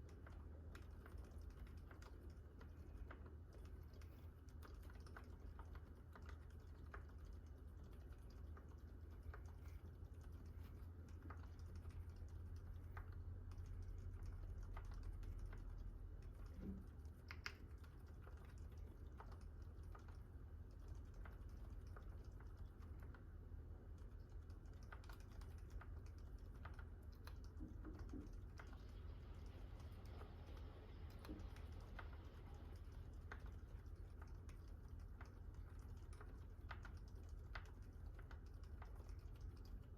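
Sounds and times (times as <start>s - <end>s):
low steady hum: 0.0s - 39.9s
quiet keyboard keystrokes: 0.0s - 39.9s.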